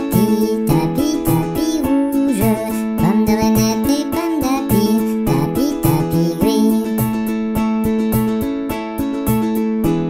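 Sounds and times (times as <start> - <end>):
children's instrumental music: 0.0 - 10.0.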